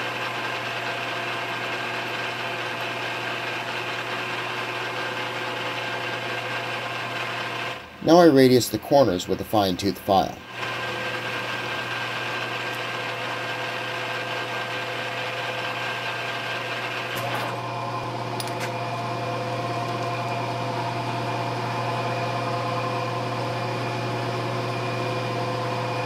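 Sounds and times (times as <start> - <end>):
metal lathe humming: 0.0 - 8.1, 10.4 - 26.0.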